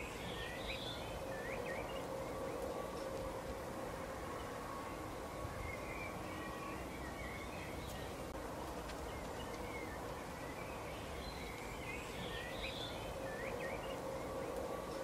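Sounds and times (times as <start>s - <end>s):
faint hum: 0.0s - 15.0s
outdoor background hiss: 0.0s - 15.0s
songbirds chirping and twittering: 0.0s - 15.0s.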